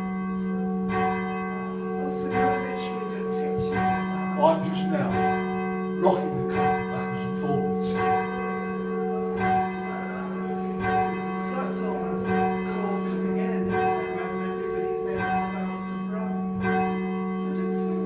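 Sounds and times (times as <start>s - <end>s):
church bell ringing: 0.0s - 18.0s.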